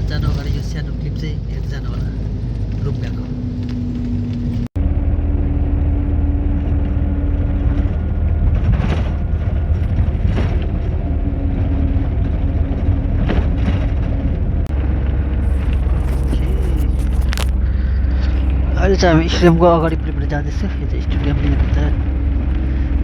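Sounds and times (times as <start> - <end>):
vehicle rumble from inside cabin: 0.0 - 23.0.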